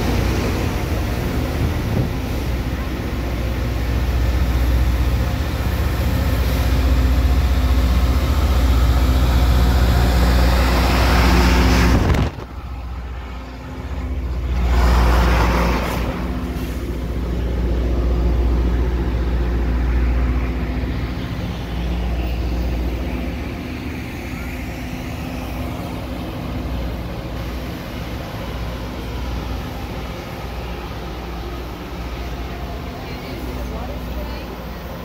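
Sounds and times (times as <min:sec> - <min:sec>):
diesel engine drone: 0:00.0 - 0:35.0.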